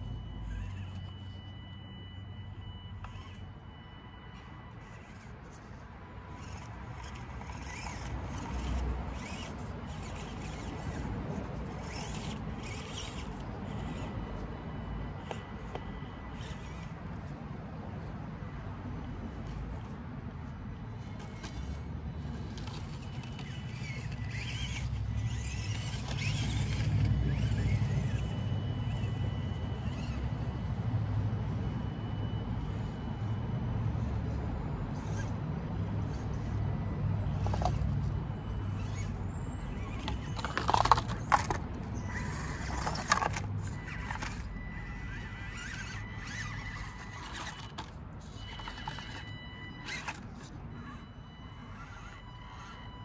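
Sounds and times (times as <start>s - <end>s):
small electric motor whine: 0.0s - 53.0s.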